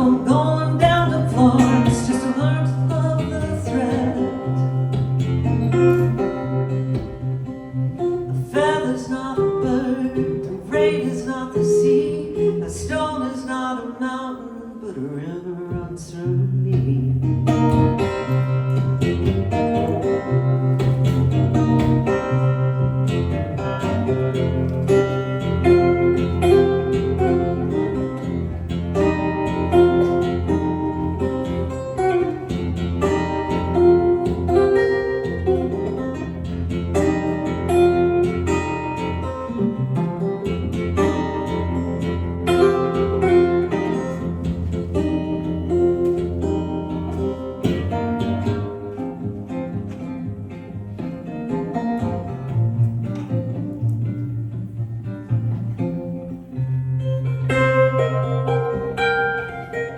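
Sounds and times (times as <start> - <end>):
acoustic guitar melody: 0.0 - 59.9.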